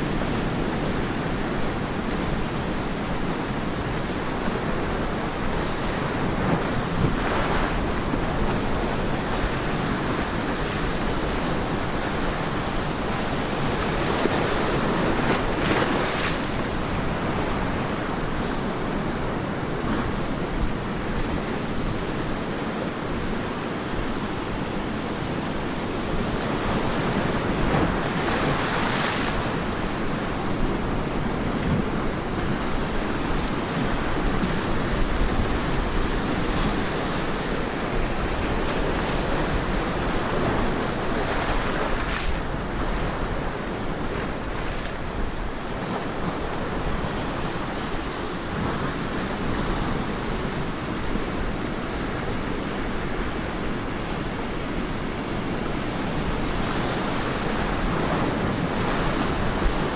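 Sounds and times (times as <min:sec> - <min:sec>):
ocean waves breaking on beach: 0:00.0 - 0:59.9
wind rumble on microphone: 0:00.0 - 0:59.9.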